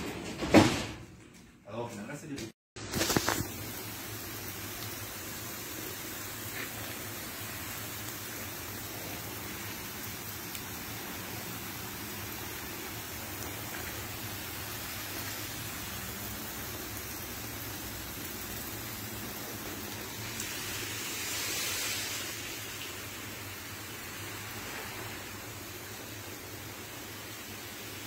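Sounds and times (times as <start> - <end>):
water spraying hiss: 2.8 - 28.0.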